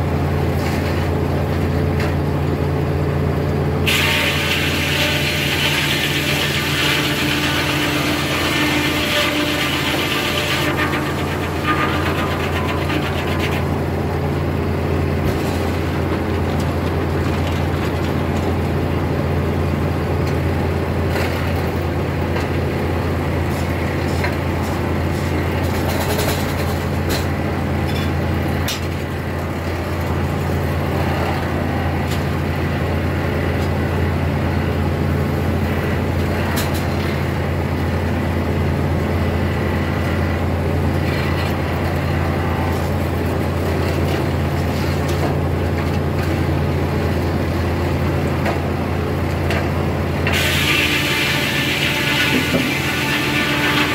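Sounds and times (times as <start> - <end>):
circular sawmill running: 0.0 - 53.9.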